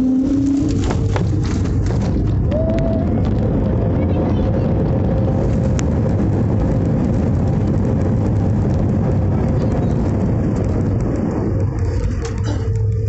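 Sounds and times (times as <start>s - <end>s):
jet engine roar in cabin: 0.0s - 13.0s.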